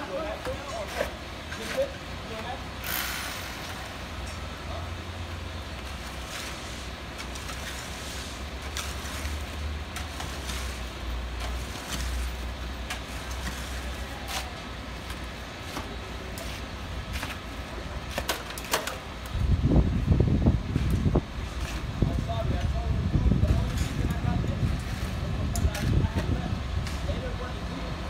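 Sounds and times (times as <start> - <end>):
concrete mixer truck rumbling: 0.0 - 28.0.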